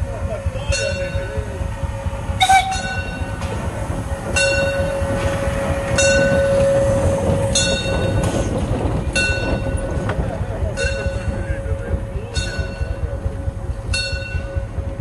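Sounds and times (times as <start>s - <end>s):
locomotive running gear rumbling: 0.0s - 15.0s
steam exhaust beats: 0.0s - 15.0s.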